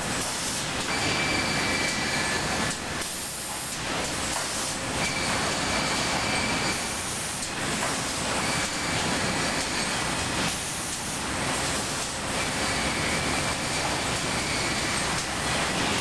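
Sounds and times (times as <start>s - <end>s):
sawmill conveyors running: 0.0s - 16.0s.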